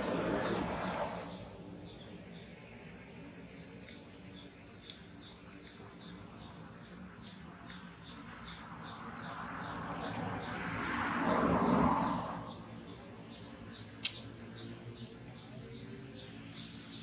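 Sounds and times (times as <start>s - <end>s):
broad rushing noise: 0.0s - 5.5s, 6.2s - 14.8s
small birds chirping: 0.0s - 17.0s.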